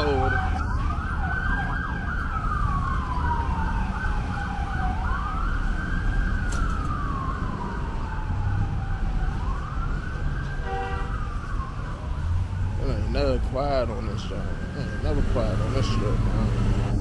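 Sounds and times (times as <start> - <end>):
low traffic rumble: 0.0 - 17.0
siren wailing: 0.0 - 17.0.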